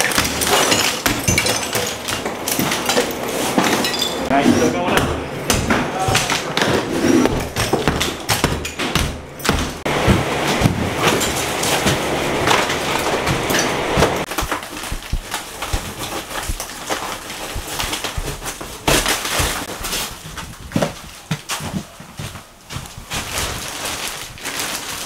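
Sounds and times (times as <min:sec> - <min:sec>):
wallboard tearing and crumbling: 0:00.0 - 0:25.0.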